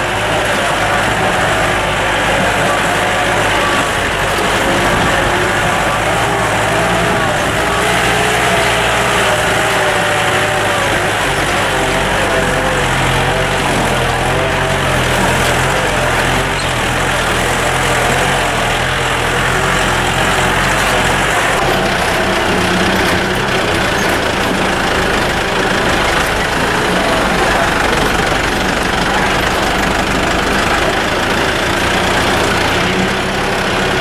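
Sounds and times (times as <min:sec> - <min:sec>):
jeep engine running: 0:00.0 - 0:34.0
road and wind noise: 0:00.0 - 0:34.0.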